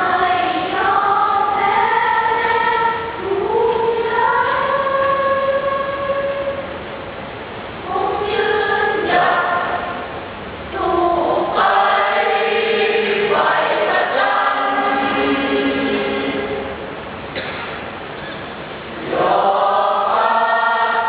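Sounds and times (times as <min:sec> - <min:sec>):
choir singing in harmony: 0:00.0 - 0:06.6, 0:07.9 - 0:17.0, 0:19.0 - 0:21.0.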